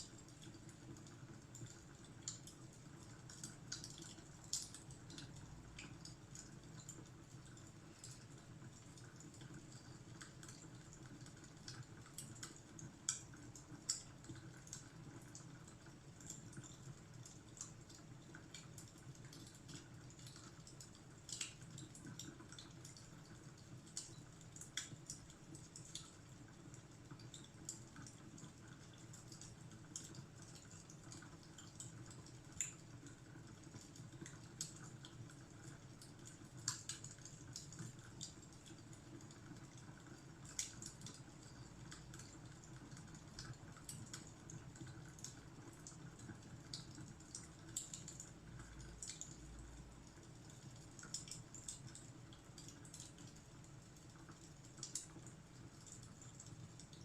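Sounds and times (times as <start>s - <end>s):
wood fire crackling: 0.1s - 49.4s, 50.1s - 56.9s.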